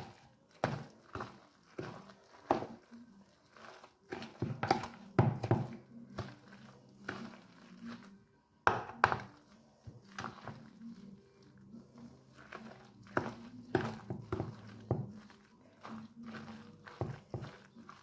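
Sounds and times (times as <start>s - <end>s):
soft wet mixing: 0.0s - 18.0s.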